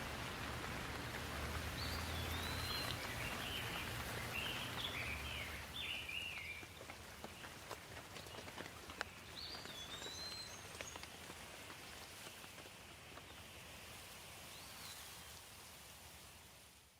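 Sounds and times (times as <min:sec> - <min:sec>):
light rain hiss: 0:00.0 - 0:16.9.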